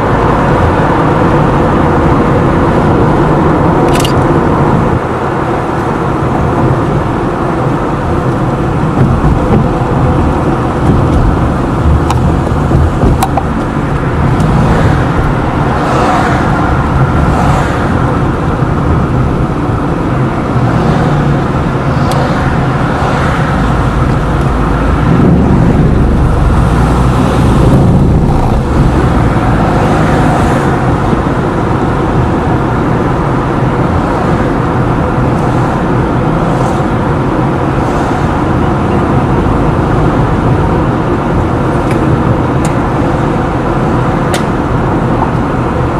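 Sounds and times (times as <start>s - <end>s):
car engine: 0.0s - 45.9s
tyre noise on road: 0.0s - 45.9s.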